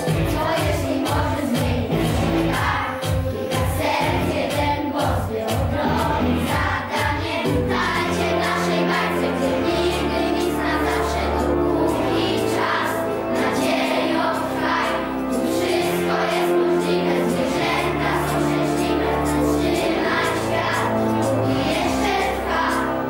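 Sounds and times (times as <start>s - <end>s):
children's choir singing: 0.0s - 23.0s
instrumental accompaniment: 0.0s - 23.0s.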